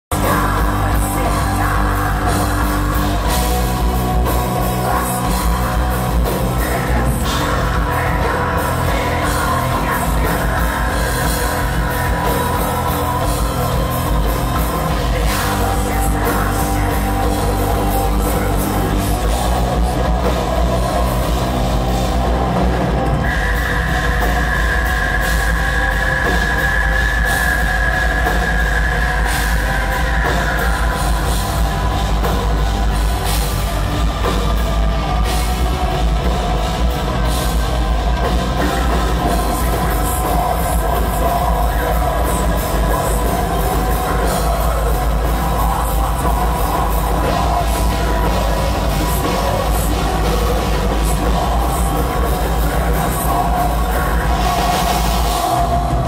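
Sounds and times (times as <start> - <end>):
black metal band playing live: 0.0 - 56.0
person singing: 0.0 - 56.0.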